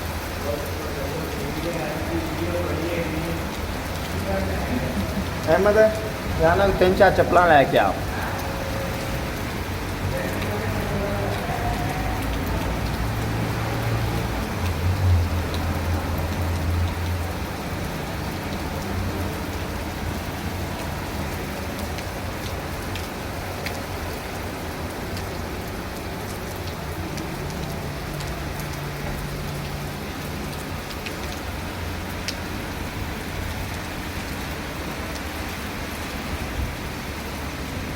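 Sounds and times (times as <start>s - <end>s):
heavy rain falling: 0.0s - 37.9s.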